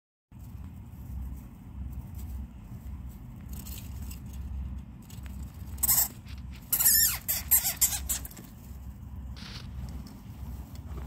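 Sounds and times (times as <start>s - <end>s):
rustling in wood shavings: 0.4s - 11.0s.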